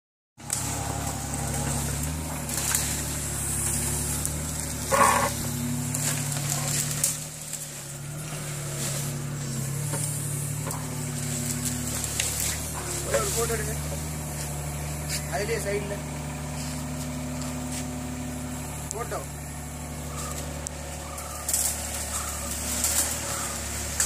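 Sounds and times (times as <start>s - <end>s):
excavator diesel engine running: 0.4s - 24.0s.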